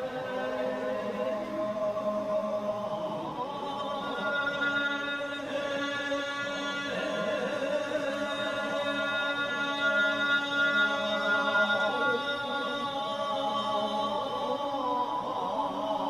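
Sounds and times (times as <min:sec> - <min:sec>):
choral chanting: 0:00.0 - 0:16.0.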